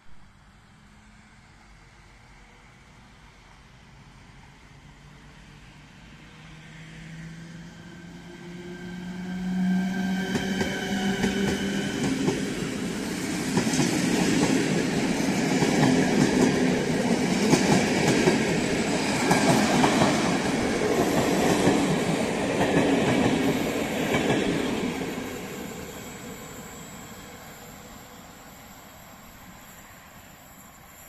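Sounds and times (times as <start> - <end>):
rush of wheel and track noise: 0.5 - 31.0.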